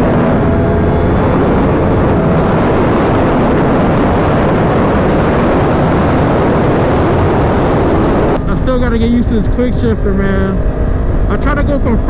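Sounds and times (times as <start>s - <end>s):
faint motorcycle engine: 0.0s - 12.0s
wind rush on microphone: 0.0s - 12.0s.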